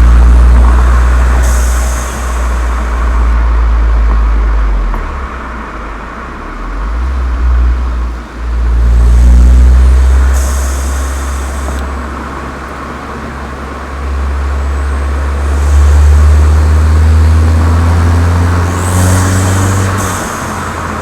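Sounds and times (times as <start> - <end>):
deep exhaust drone: 0.0 - 21.0.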